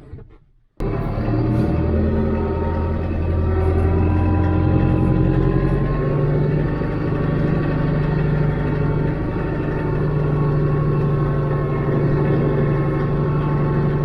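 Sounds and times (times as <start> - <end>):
tractor diesel engine running: 0.8 - 14.0.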